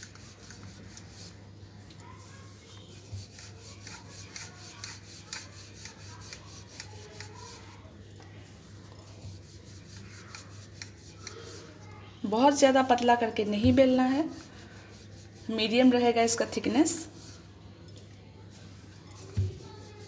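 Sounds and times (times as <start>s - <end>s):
rolling pin scraping dough: 0.0s - 1.4s, 2.1s - 7.8s, 8.5s - 11.8s, 13.3s - 17.5s, 18.5s - 20.0s.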